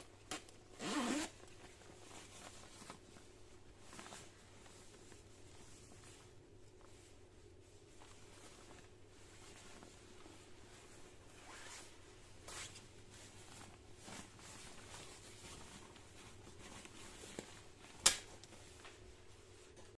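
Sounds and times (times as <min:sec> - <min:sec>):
fabric rustling: 0:00.0 - 0:20.0.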